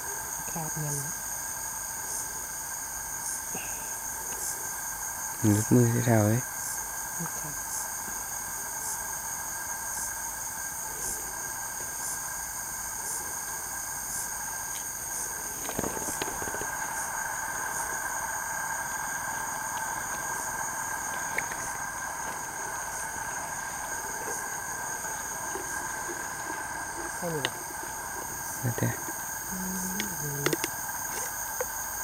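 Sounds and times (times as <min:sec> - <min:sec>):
insect chirps: 0:00.0 - 0:32.0
insects trilling: 0:00.0 - 0:32.0.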